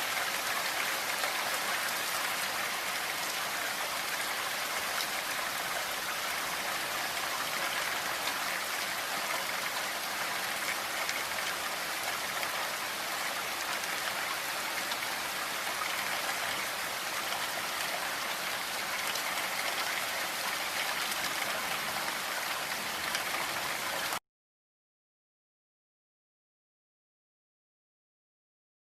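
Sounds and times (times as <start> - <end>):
rain pattering: 0.0 - 24.2.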